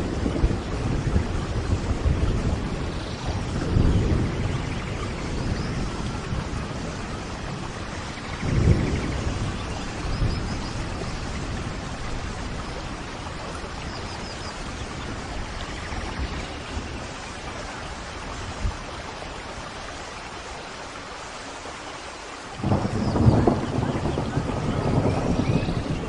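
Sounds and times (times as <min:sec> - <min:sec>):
low roll of thunder: 0:00.0 - 0:19.6, 0:22.6 - 0:26.0
steady rain: 0:00.0 - 0:26.0.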